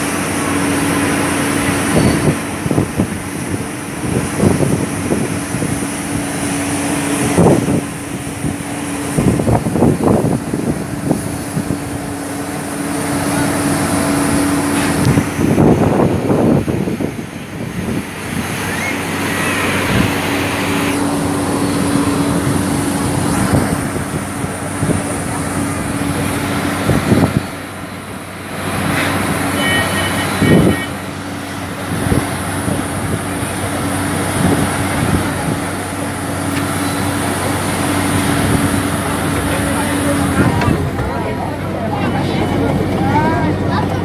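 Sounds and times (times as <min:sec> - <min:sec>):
wind buffeting microphone: 0:00.0 - 0:29.6, 0:30.3 - 0:44.0
jet airliner mechanical drone: 0:00.0 - 0:44.0.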